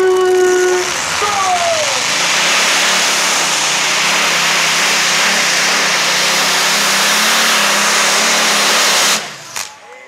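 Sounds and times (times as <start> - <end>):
tractor engine running loud: 0.0 - 9.8.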